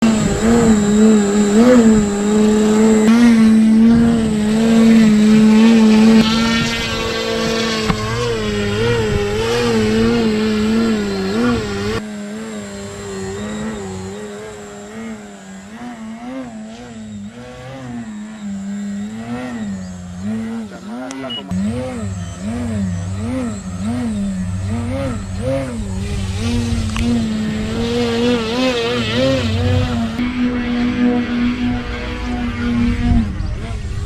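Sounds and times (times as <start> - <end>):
model plane motor whining: 0.0 - 34.0.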